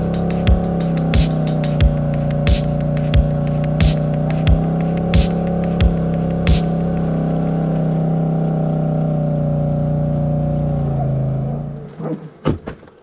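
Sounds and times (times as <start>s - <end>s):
quad engine running: 0.0s - 11.8s.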